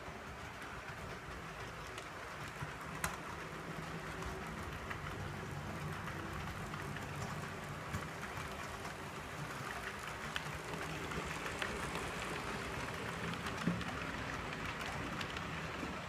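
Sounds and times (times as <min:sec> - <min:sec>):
model train wheels clattering: 0:00.0 - 0:16.0.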